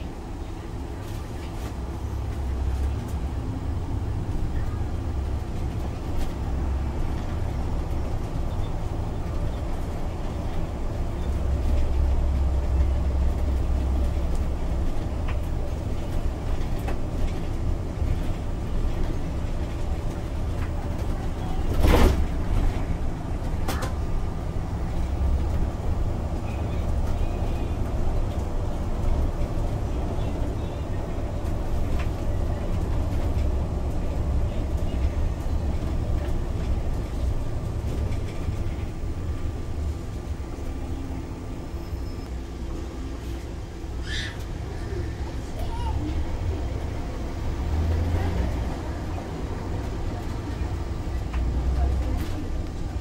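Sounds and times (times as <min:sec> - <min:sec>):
bus engine rumble: 0:00.0 - 0:53.0
road noise: 0:00.0 - 0:53.0.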